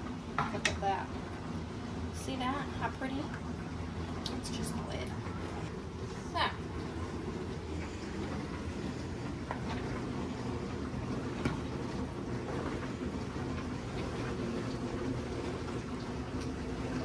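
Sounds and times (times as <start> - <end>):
kitchen background hum: 0.0 - 17.0.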